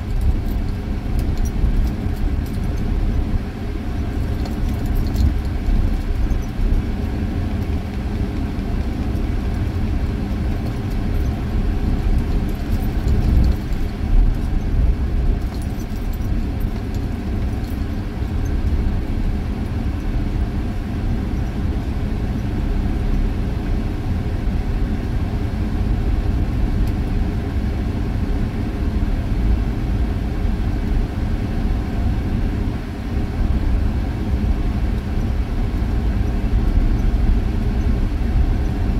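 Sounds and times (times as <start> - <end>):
vehicle driving on sand: 0.0 - 38.9.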